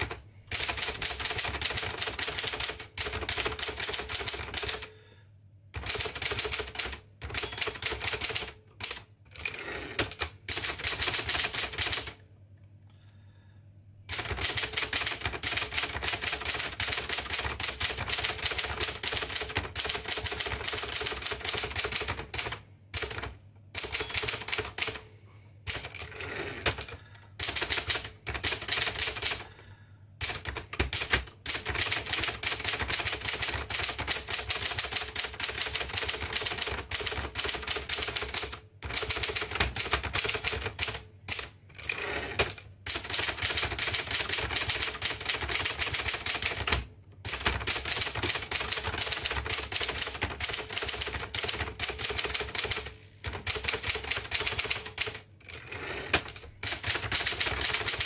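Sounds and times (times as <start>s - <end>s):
manual typewriter typing: 0.0s - 5.0s, 5.7s - 12.2s, 14.1s - 25.0s, 25.6s - 29.6s, 30.2s - 58.0s.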